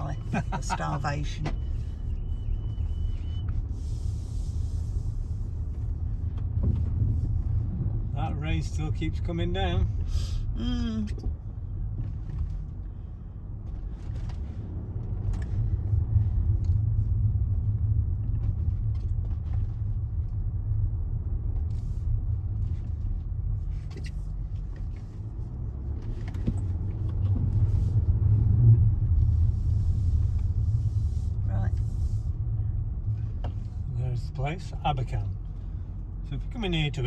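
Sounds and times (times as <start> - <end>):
car cabin road rumble: 0.0 - 37.0.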